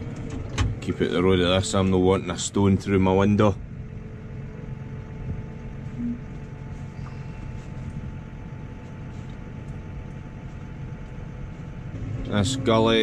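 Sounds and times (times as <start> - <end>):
tractor diesel engine drone: 0.0 - 13.0.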